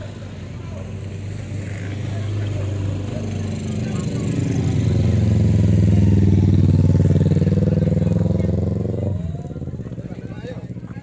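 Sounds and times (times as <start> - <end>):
motorcycle riding past: 0.0 - 11.0.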